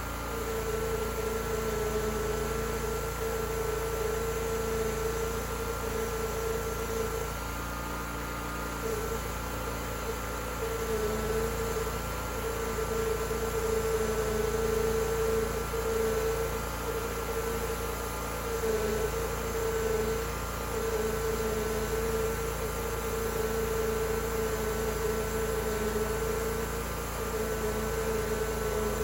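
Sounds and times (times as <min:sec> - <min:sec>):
band sawmill humming: 0:00.0 - 0:29.0.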